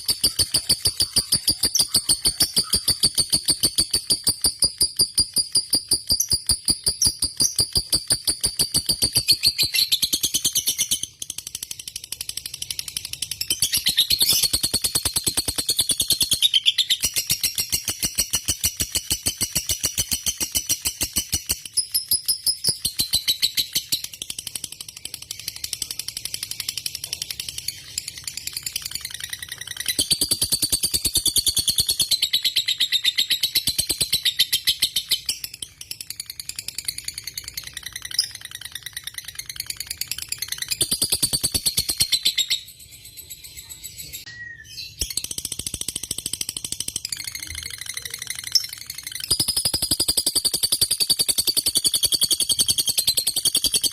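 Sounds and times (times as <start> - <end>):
lovebird chattering song: 0.0 - 11.7, 12.3 - 53.9.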